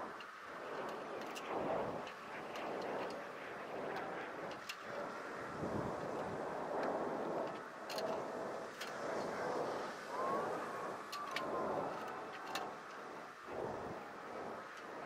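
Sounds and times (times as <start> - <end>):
background rumble: 0.0 - 15.0.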